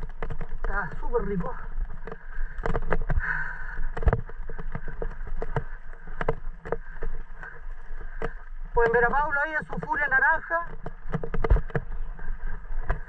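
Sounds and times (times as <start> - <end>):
bike clicks and knocks: 0.0 - 13.0
low wind rumble: 0.0 - 13.0
tyre noise on loose dirt: 0.0 - 13.0.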